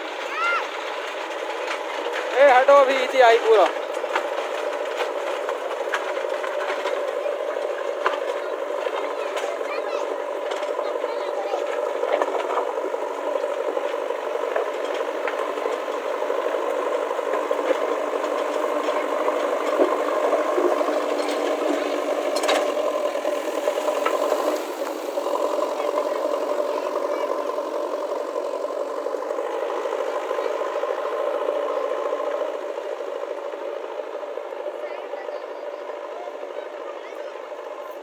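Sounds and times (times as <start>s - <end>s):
engine-like drone: 0.0s - 38.0s
rattling: 0.2s - 36.5s.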